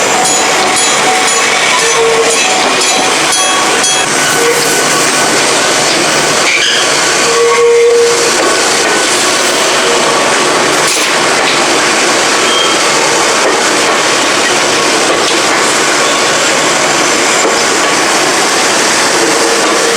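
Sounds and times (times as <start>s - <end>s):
train wheels on track: 0.0s - 19.9s.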